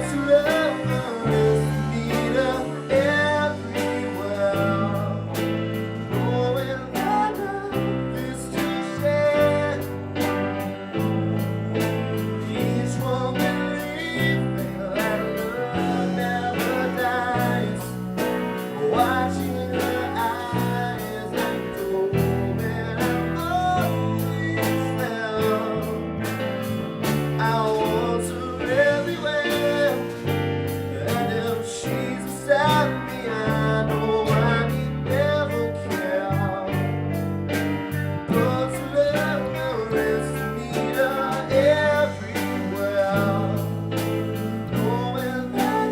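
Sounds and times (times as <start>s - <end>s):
bass and drums: 0.0s - 45.9s
electric guitar: 0.0s - 45.9s
person singing: 0.0s - 45.9s.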